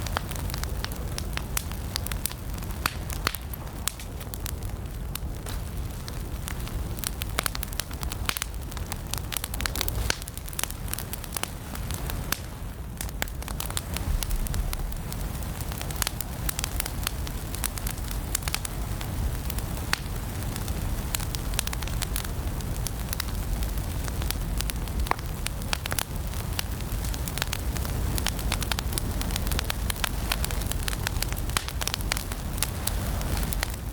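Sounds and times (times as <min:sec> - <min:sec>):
low rumble of flames: 0:00.0 - 0:33.9
wood fire crackling and popping: 0:00.0 - 0:33.9.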